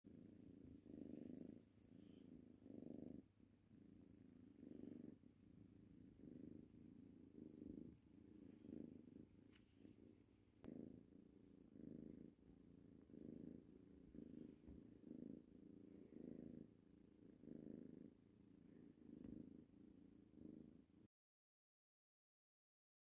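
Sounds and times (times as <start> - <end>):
kitten purring: 0.0 - 21.1.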